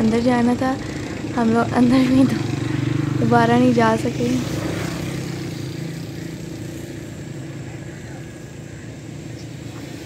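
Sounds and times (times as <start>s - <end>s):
faint outdoor noise: 0.0s - 10.0s
vehicle engine humming: 0.0s - 10.0s.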